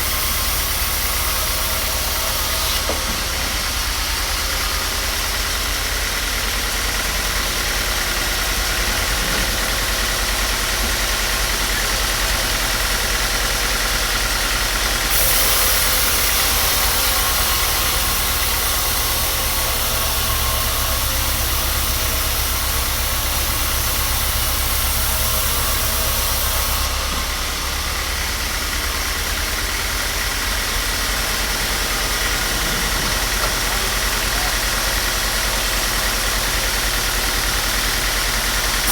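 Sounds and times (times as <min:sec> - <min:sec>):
power tool humming and hissing: 0:00.0 - 0:38.9.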